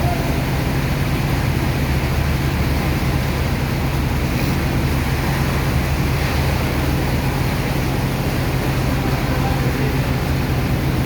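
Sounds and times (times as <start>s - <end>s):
engine droning: 0.0s - 11.0s
pump rushing noise: 0.0s - 11.0s.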